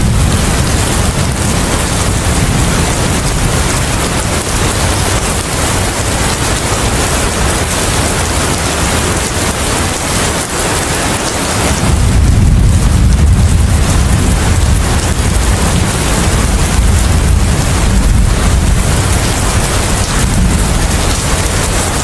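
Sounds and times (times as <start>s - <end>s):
deep rumble: 0.0s - 8.5s, 11.6s - 22.0s
heavy rain falling: 0.0s - 22.0s.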